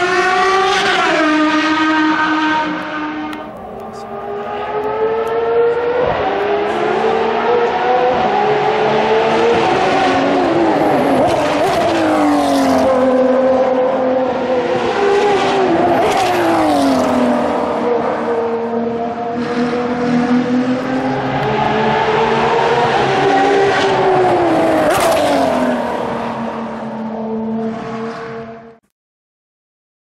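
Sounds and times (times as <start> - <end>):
race car engines at high revs: 0.0 - 28.8.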